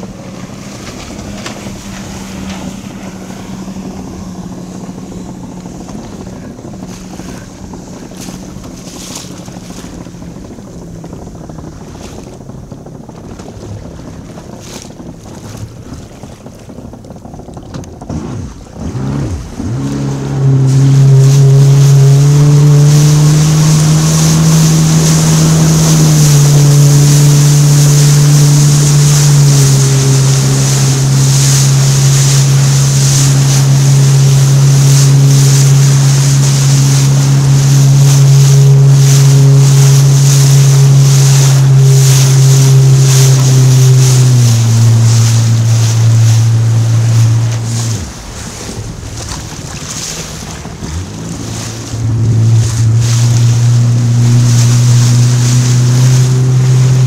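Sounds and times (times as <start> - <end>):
jet ski engine: 0.0 - 57.0.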